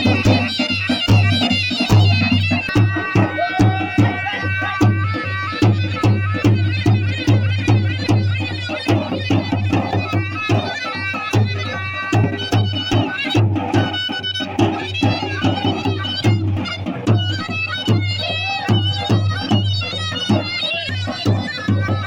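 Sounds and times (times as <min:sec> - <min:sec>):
reedy wind instrument melody: 0:00.0 - 0:22.0
steady drum beat: 0:00.0 - 0:22.0.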